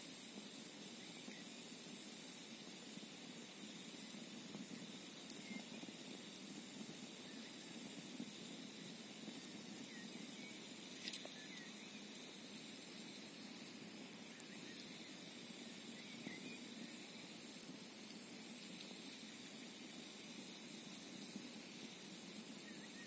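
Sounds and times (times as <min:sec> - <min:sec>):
campfire crackling and hissing: 0:00.0 - 0:23.0.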